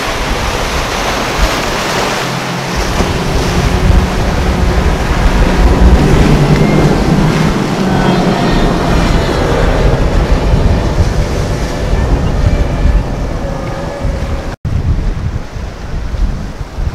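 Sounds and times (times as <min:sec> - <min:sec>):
outboard engines droning: 0:00.0 - 0:14.6
rush of surf and spray: 0:00.0 - 0:16.9
wind on microphone: 0:00.0 - 0:16.9.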